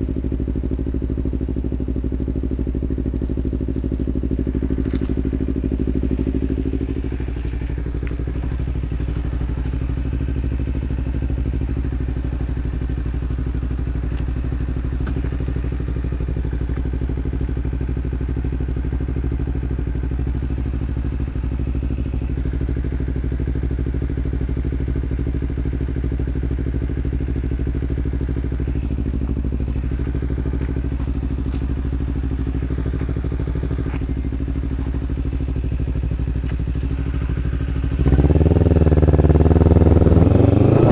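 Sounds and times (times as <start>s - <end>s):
motorcycle engine running steadily: 0.0s - 40.9s.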